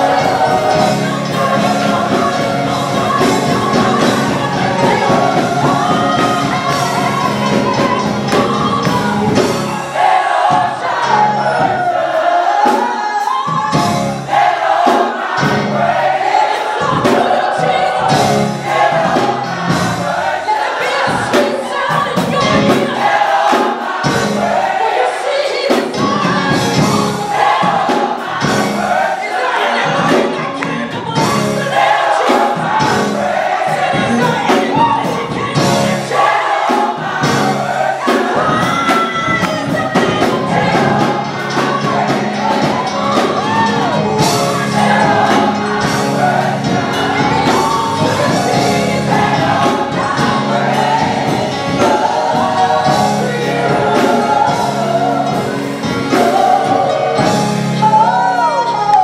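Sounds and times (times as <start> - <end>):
gospel choir singing: 0.0 - 59.0
instrumental accompaniment with beat: 0.0 - 59.0.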